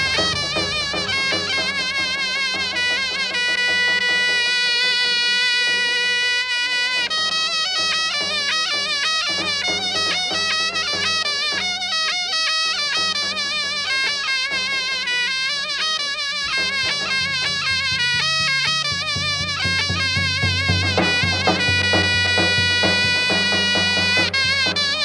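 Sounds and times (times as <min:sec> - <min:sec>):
drum beats: 0:00.0 - 0:25.0
shawm playing folk melody: 0:00.0 - 0:25.0.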